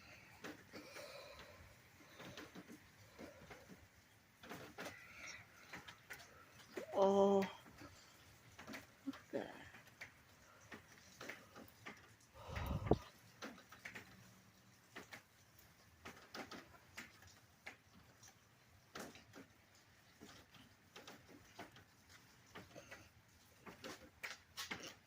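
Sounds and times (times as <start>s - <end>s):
faint raindrops dripping: 0.0s - 25.0s.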